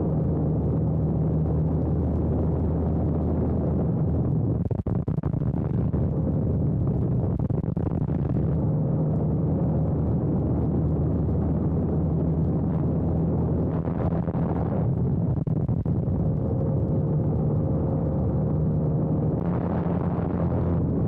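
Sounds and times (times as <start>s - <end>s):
plane engine drone: 0.0s - 21.0s
wind buffeting microphone: 0.0s - 21.0s.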